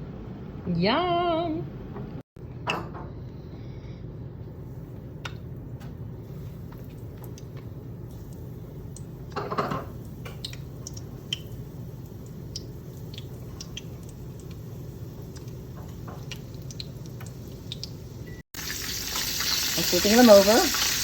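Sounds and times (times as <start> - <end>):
low steady hum: 0.0 - 18.4.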